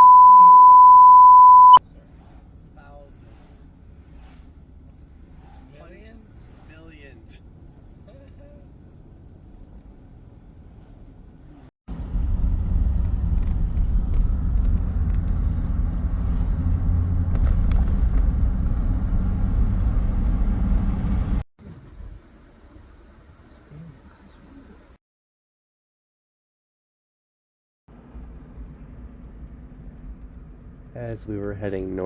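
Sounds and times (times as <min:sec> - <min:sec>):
car low rumble: 0:00.0 - 0:25.0, 0:27.9 - 0:32.0.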